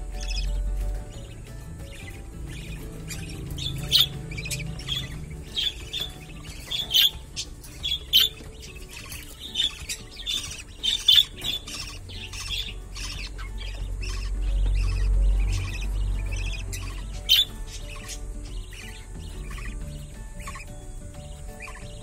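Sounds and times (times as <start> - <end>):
parakeet chicks squawking: 0.0 - 22.0.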